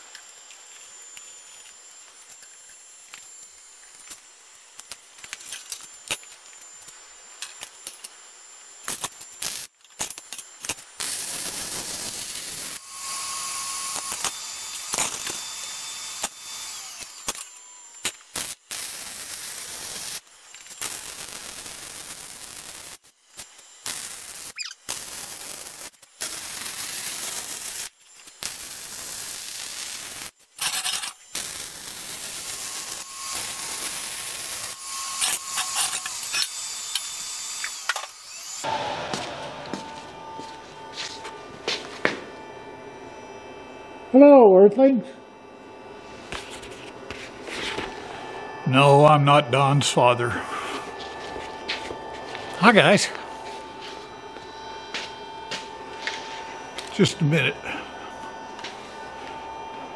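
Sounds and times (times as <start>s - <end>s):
welding arc crackling: 0.0s - 42.5s, 46.0s - 59.9s.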